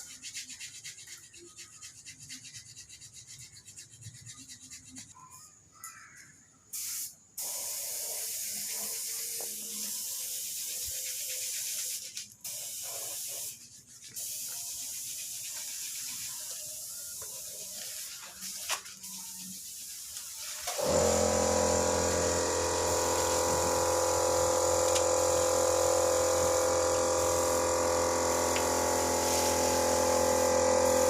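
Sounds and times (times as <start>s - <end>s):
spray paint hissing: 0.0s - 31.0s.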